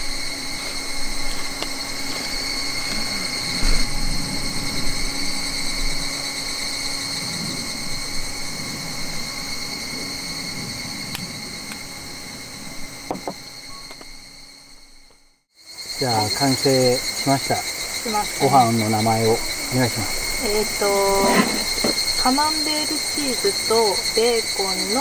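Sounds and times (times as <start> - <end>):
insect chorus drone: 0.0 - 25.0
low steady hum: 0.0 - 25.0.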